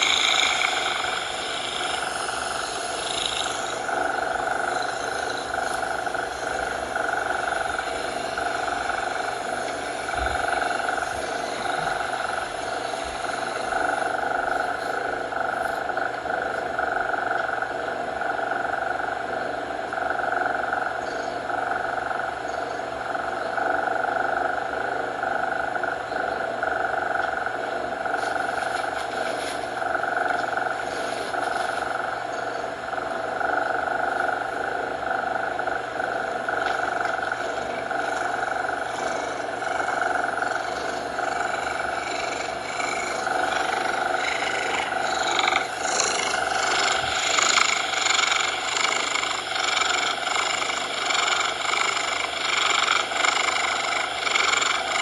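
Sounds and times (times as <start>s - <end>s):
cat purring: 0.0s - 55.0s
steady background noise: 0.0s - 55.0s.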